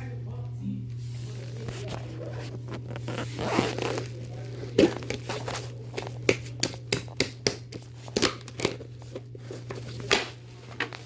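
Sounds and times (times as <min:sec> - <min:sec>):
low electrical hum: 0:00.0 - 0:11.0
crackling and crinkling: 0:00.9 - 0:11.0.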